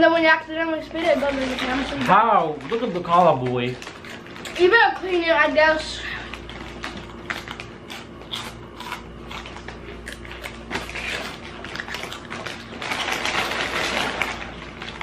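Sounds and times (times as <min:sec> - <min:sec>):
crunching and chewing snacks: 0:00.6 - 0:15.0.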